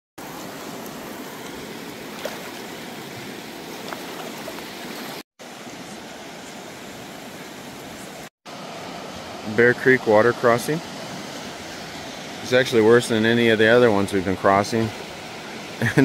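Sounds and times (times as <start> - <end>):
creek water flowing: 0.2 - 16.0.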